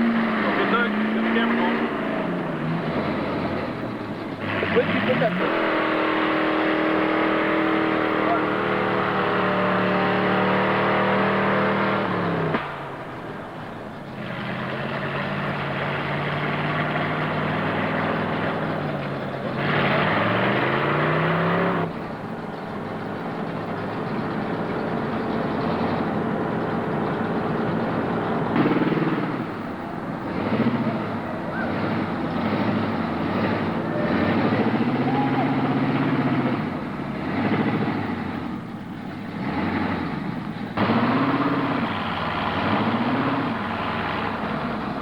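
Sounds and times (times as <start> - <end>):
truck engine revving: 0.0 - 45.0.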